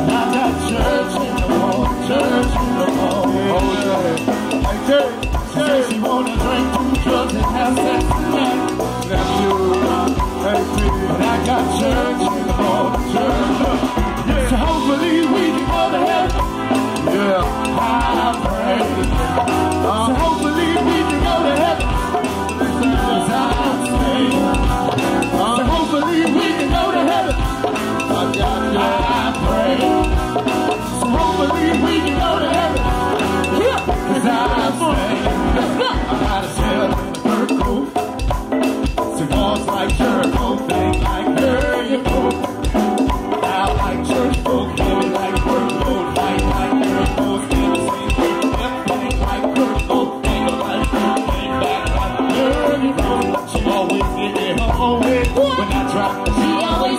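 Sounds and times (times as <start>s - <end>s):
drum kit beat: 0.0s - 56.9s
live band music: 0.0s - 56.9s.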